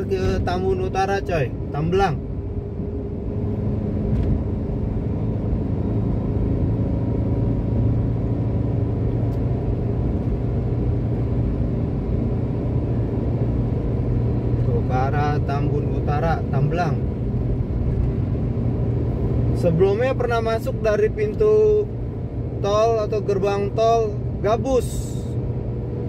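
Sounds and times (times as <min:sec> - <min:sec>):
car engine and tyre drone: 0:00.0 - 0:26.0.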